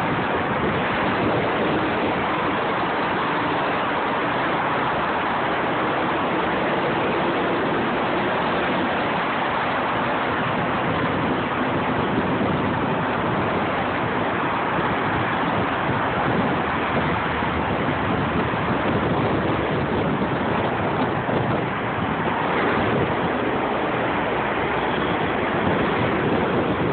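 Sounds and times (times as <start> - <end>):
tyre road noise: 0.0 - 26.9
wind noise inside car: 0.0 - 26.9.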